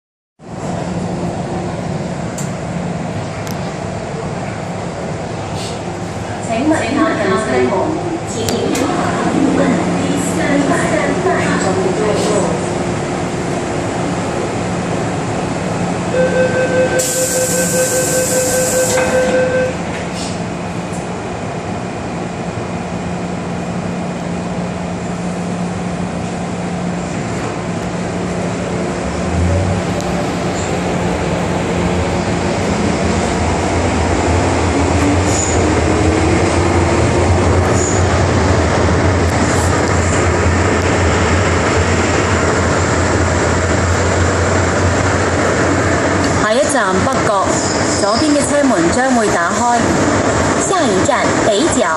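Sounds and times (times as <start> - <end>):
train cabin hum: 0.4 - 51.9.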